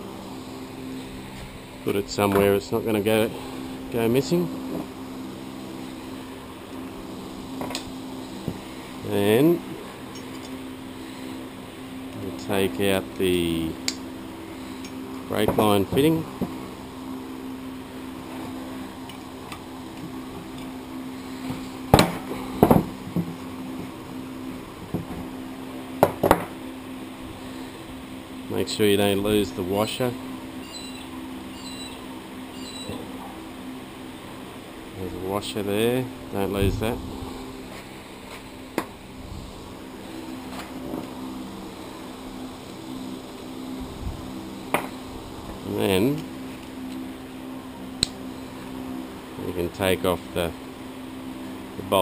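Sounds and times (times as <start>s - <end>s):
low hum: 0.0s - 52.0s.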